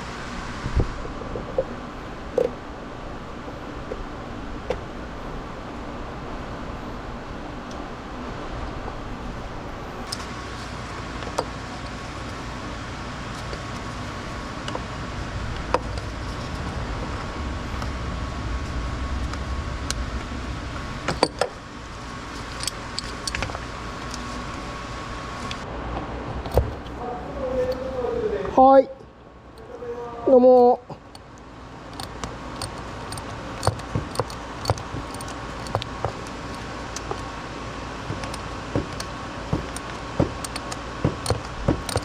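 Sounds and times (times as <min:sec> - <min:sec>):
faint high whine: 0:00.0 - 0:42.0
low hum: 0:00.0 - 0:42.0.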